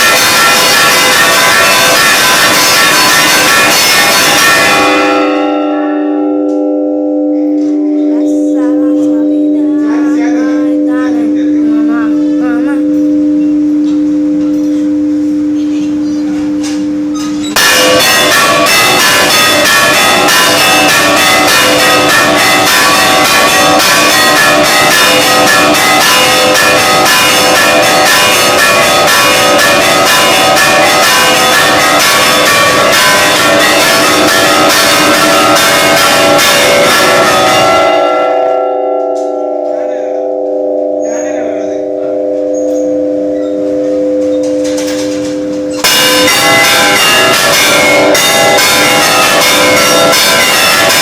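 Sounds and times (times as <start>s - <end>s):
church bell ringing: 0.0s - 51.0s.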